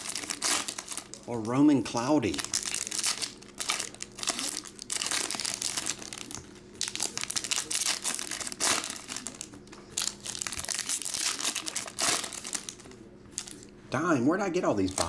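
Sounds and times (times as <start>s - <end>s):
card pack wrappers crinkling: 0.0s - 13.7s, 14.7s - 15.0s.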